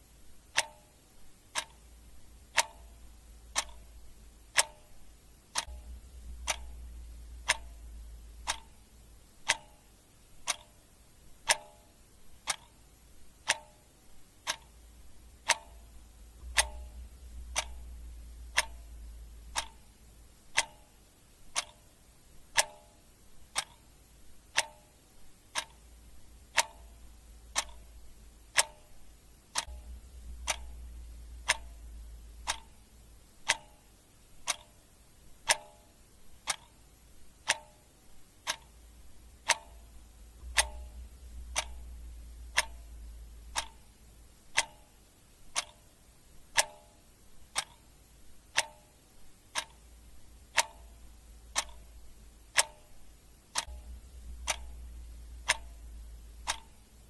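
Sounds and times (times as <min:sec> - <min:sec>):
clock ticking: 0:00.0 - 0:57.0
faint low rumble: 0:00.0 - 0:57.0.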